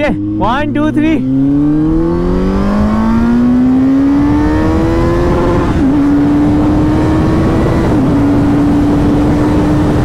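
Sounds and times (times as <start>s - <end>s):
motorcycle engine accelerating: 0.0s - 10.0s
wind rush on microphone: 1.3s - 10.0s.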